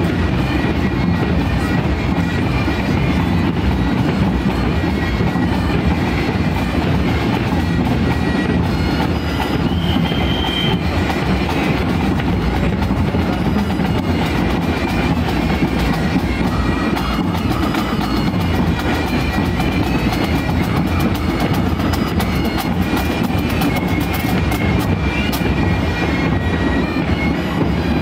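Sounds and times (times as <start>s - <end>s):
bagpipes playing melody: 0.0s - 28.0s
snare and bass drums beating: 0.0s - 28.0s.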